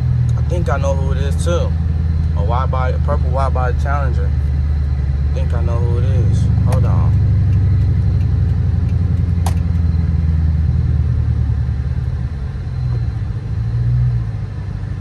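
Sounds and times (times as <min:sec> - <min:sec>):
car engine rumbling from inside cabin: 0:00.0 - 0:15.0.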